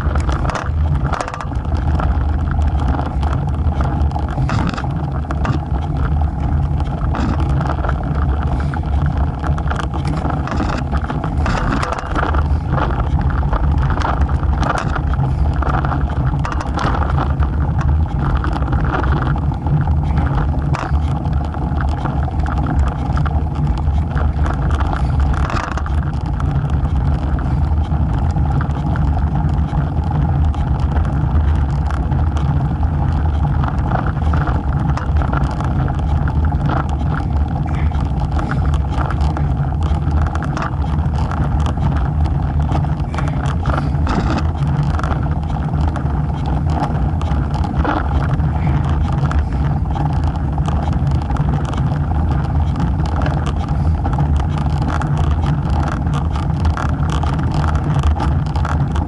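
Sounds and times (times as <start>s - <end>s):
bike tyre rumble on asphalt: 0.0s - 59.0s
wind on microphone: 0.0s - 59.0s.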